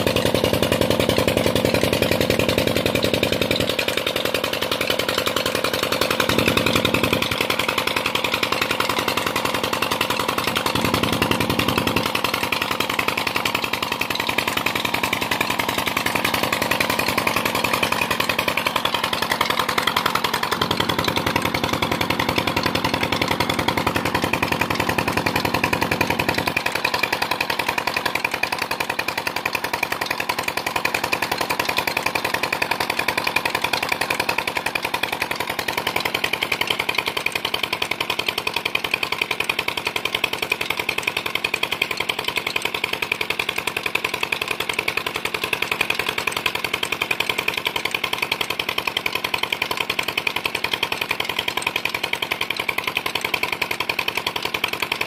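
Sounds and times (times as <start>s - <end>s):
pump engine chugging: 0.0s - 55.0s
water gushing from pipe: 0.0s - 55.0s.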